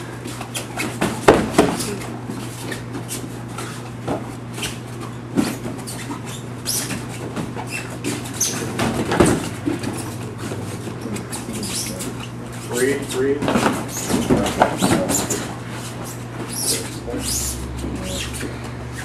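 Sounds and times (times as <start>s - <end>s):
shoes squeaking on mats: 0.2s - 19.0s.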